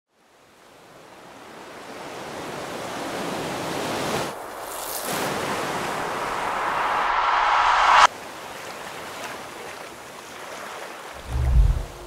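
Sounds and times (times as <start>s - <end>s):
rushing sea: 0.2s - 12.0s.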